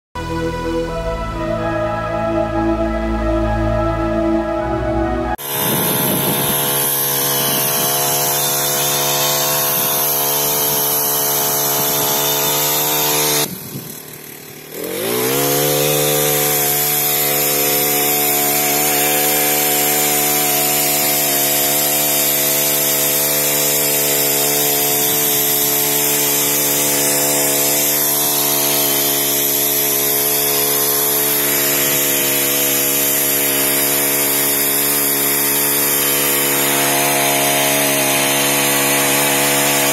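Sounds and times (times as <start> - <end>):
petrol engine running at high revs: 2.7 - 39.9.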